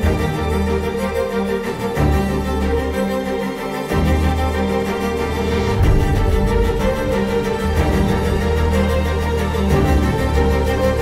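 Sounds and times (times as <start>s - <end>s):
music with sustained tones: 0.0s - 11.0s.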